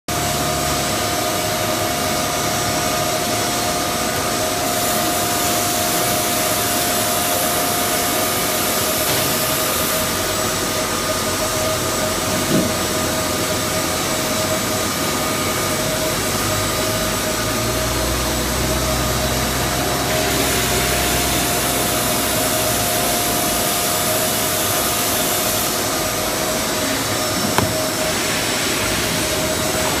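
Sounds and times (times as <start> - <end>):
cutting machine whine and hiss: 0.1 - 30.0.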